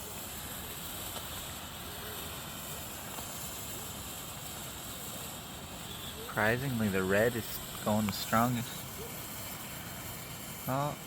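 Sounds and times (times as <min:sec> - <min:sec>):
smoke firework hissing: 0:00.0 - 0:11.0.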